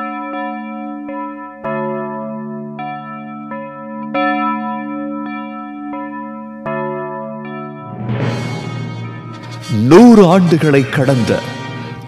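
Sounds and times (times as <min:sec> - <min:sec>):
electric piano chords: 0:01.4 - 0:11.3.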